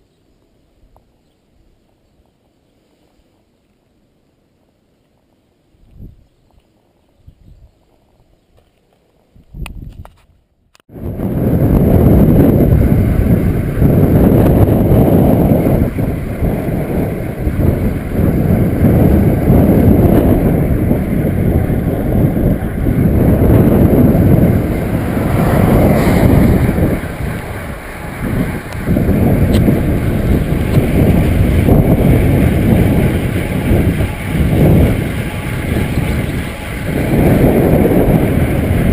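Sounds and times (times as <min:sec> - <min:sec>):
wind buffeting microphone: 0:05.8 - 0:08.6, 0:09.2 - 0:38.9.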